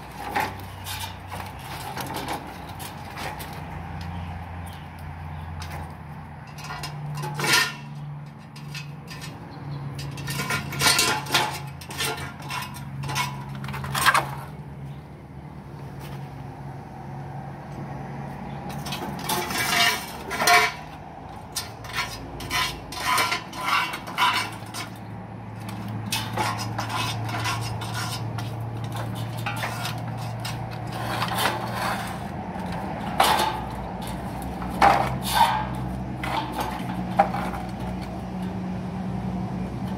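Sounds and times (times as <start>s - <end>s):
poles and pipes clattering: 0.0s - 14.6s, 18.6s - 38.7s.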